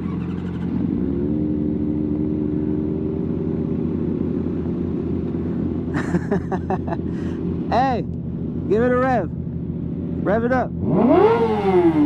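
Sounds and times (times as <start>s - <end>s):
motorcycle engines idling: 0.0s - 12.0s.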